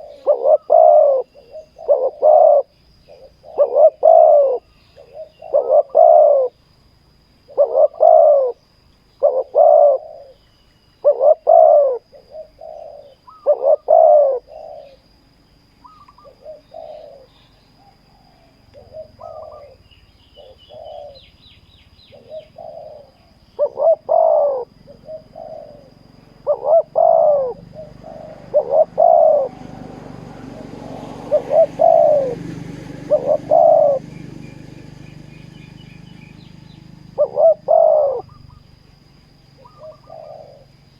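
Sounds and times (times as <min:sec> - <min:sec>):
doves cooing: 0:00.0 - 0:06.6, 0:07.5 - 0:08.6, 0:09.2 - 0:10.4, 0:11.0 - 0:15.2, 0:15.8 - 0:40.9.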